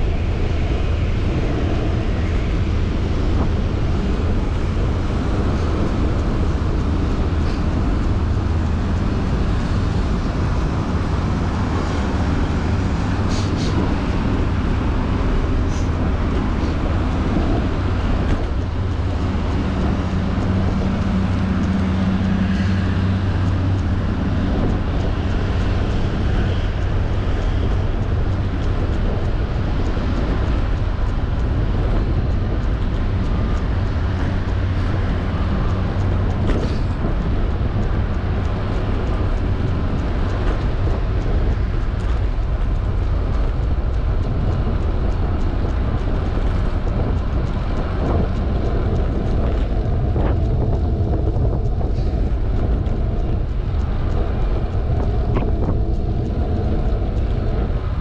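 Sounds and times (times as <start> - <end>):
air rushing over microphone: 0.0 - 58.0
bicycle tyres rolling on asphalt: 0.0 - 58.0
low hum: 0.0 - 58.0.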